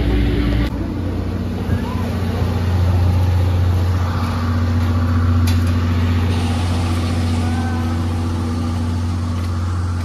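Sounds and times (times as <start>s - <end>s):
train machinery drone: 0.0s - 10.0s.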